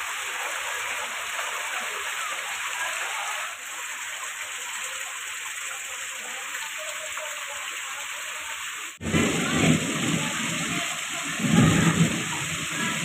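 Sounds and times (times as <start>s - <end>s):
heavy rain falling: 0.0s - 13.0s
water running: 0.0s - 13.0s.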